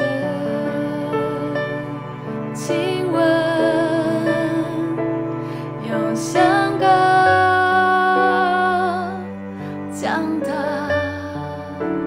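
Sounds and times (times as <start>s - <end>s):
singer holding long note: 0.0s - 12.0s
sustained accompaniment: 0.0s - 12.0s.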